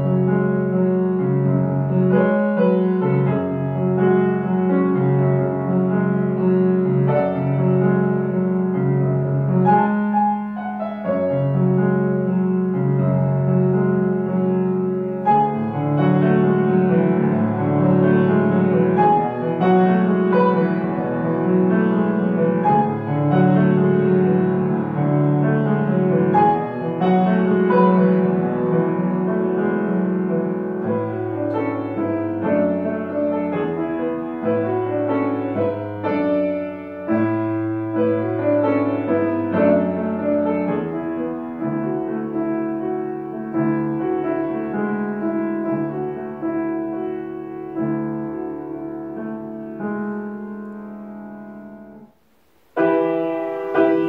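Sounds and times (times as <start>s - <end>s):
grand piano piece: 0.0s - 54.0s.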